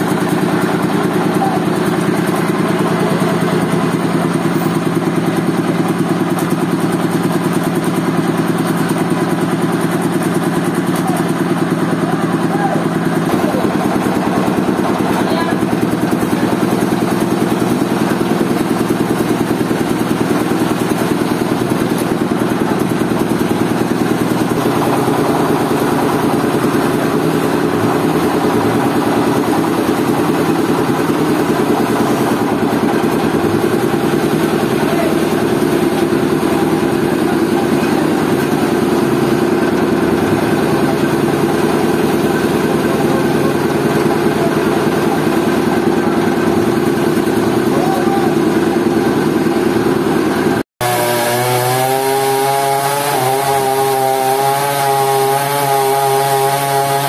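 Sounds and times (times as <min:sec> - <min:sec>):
machinery engine idling: 0:00.0 - 0:52.6.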